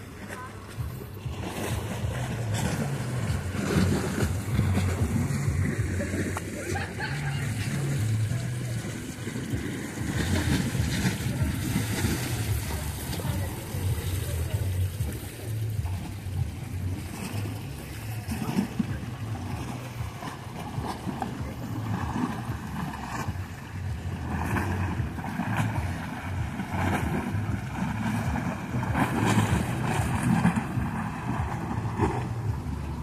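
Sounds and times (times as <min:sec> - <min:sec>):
waves splashing against concrete: 0:00.0 - 0:33.0
wind buffeting microphone: 0:00.0 - 0:33.0.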